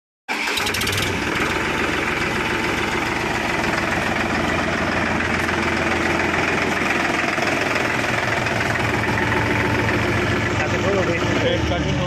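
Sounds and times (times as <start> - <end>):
tractor diesel engine idling: 0.3 - 12.0.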